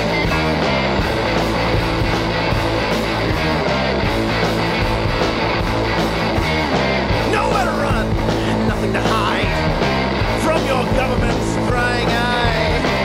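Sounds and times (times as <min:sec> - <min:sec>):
bass line: 0:00.0 - 0:13.0
distorted electric guitar: 0:00.0 - 0:13.0
steady drum beat: 0:00.0 - 0:13.0.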